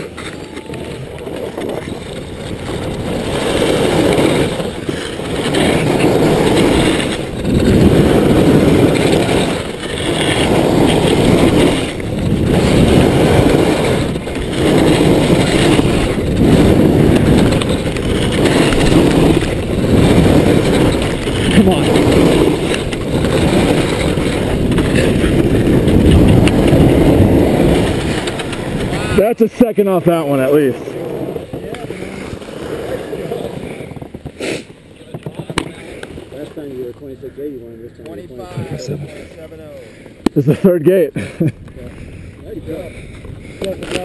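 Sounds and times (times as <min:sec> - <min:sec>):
wind rushing over microphone: 0:00.0 - 0:39.6, 0:40.2 - 0:44.0
ski carving on packed snow: 0:00.0 - 0:44.0.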